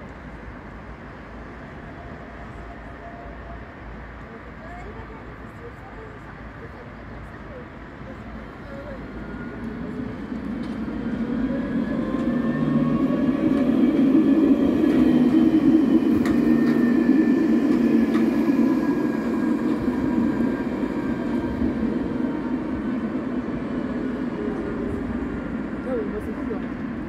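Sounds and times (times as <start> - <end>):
tram electric whine: 0.0 - 27.0
tram wheels rumbling on rails: 0.0 - 27.0.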